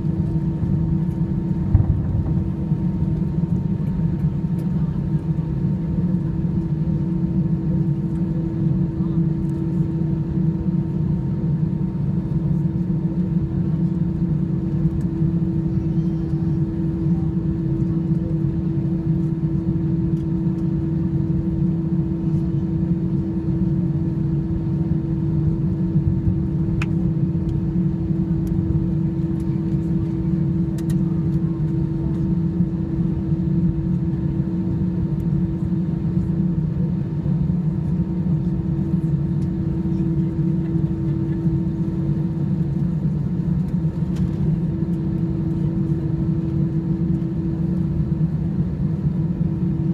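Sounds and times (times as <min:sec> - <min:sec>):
aircraft cabin engine rumble: 0:00.0 - 0:49.9.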